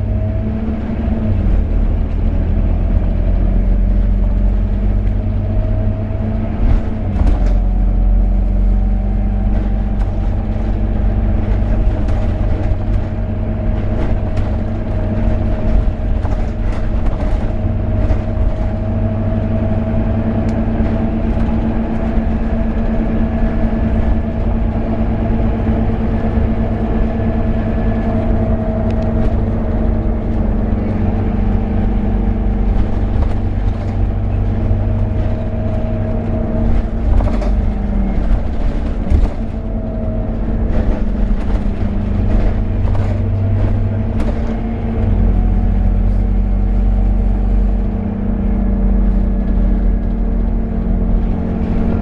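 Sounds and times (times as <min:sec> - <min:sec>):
bus engine drone with whine: 0:00.0 - 0:52.0.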